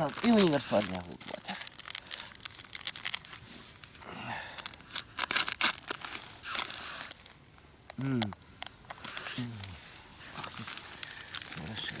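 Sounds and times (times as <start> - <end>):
plastic packet crinkling and tearing: 0.0 - 12.0.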